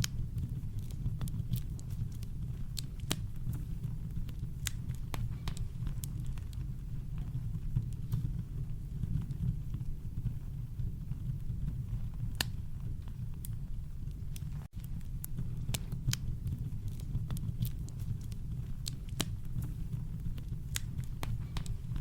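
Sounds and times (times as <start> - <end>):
campfire crackling and popping: 0.0 - 22.0
low brown noise rumble: 0.0 - 22.0.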